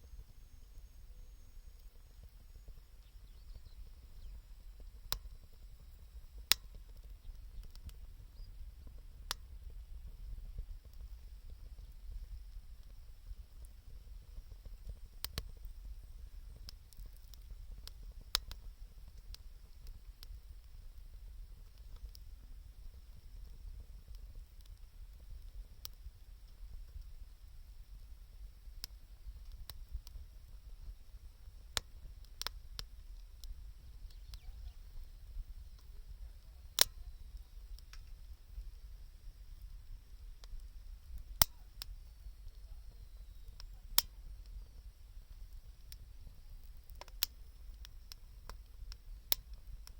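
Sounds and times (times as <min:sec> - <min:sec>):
low fire rumble: 0:00.0 - 0:49.9
wood fire crackling: 0:00.1 - 0:49.9.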